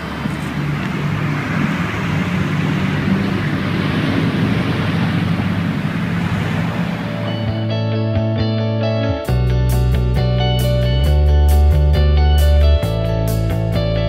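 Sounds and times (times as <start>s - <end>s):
street traffic engine hum: 0.0s - 14.0s.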